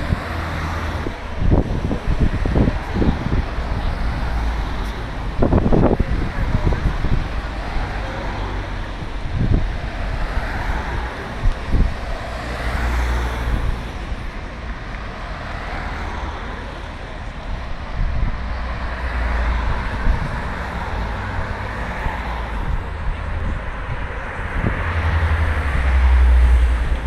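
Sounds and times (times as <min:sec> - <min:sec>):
cars driving past: 0:00.0 - 0:27.0
wind rumbling on microphone: 0:00.0 - 0:27.0.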